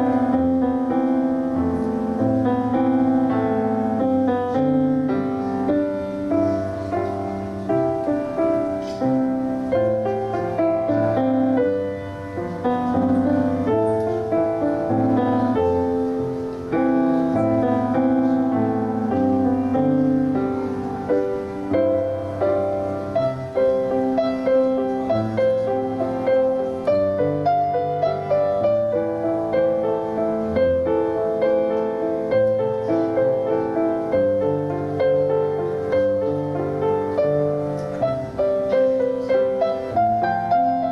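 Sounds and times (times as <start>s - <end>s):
slow flowing piano piece: 0.0s - 40.9s.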